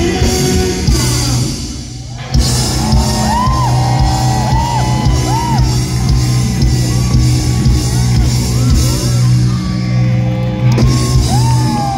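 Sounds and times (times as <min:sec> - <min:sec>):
live rock band: 0:00.0 - 0:11.9.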